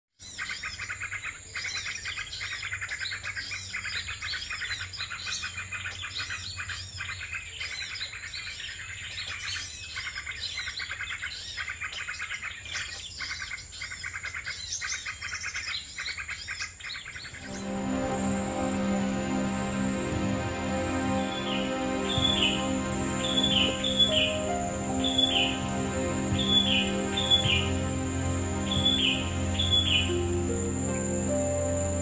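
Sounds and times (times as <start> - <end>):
small birds chirping: 0.2 - 18.9, 20.7 - 32.0.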